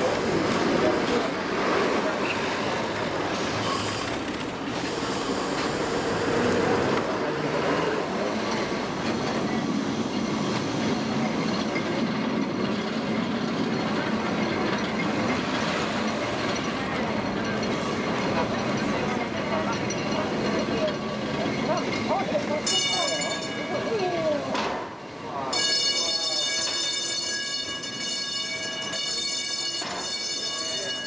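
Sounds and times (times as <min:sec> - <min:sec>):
tram running on rails: 0:00.0 - 0:31.0.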